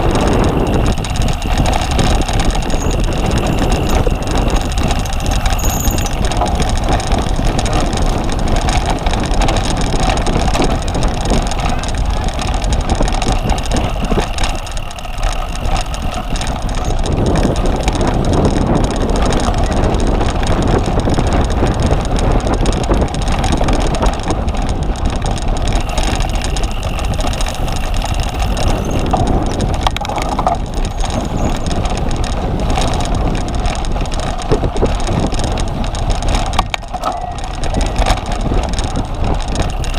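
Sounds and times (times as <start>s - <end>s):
bicycle being ridden: 0.0s - 39.9s
wind rushing over microphone: 0.0s - 39.9s.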